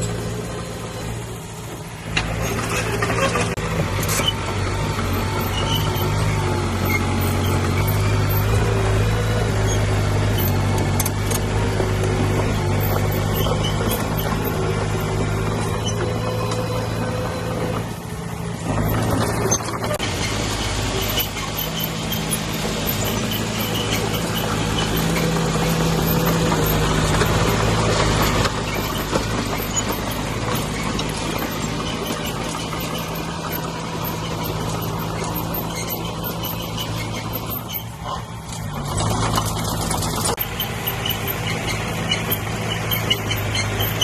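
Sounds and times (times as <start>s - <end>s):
heavy diesel engine under load: 0.0s - 44.0s.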